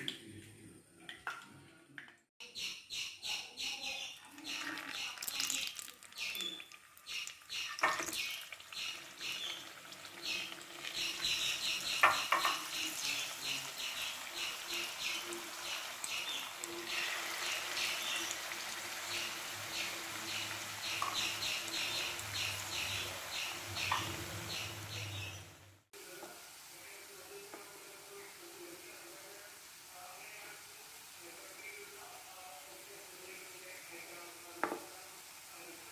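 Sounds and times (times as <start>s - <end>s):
deep-frying in hot oil sizzling: 4.2s - 35.9s.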